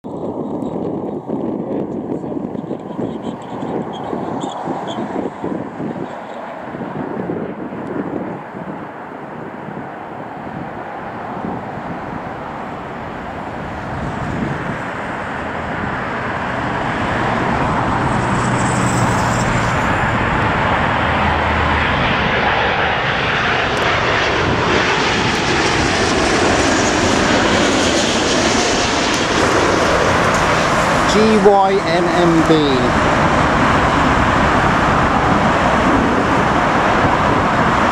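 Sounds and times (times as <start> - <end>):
jet airliner engines on approach: 0.1 - 37.9.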